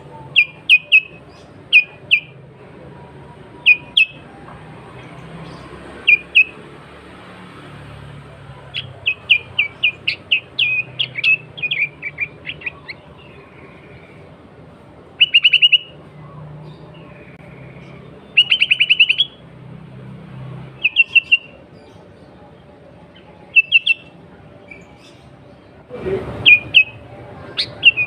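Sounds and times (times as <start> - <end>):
bird chirping: 0.0 - 6.8, 7.5 - 14.3, 15.0 - 19.6, 20.4 - 28.0.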